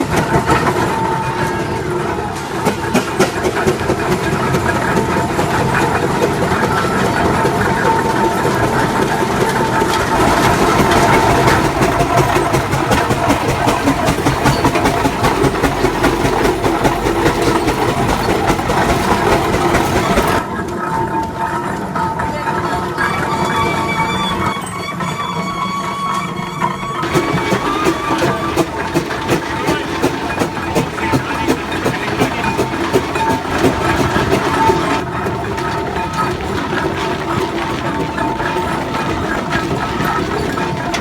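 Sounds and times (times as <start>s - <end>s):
steam engine running: 0.0s - 20.5s, 27.0s - 41.0s.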